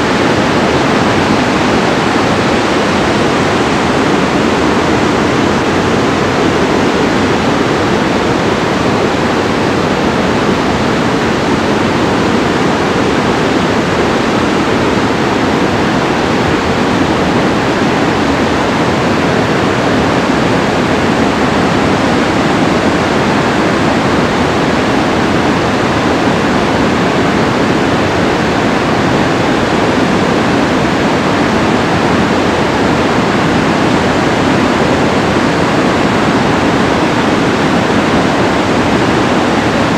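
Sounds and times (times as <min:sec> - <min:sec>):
river rushing through canyon: 0:00.0 - 0:39.9.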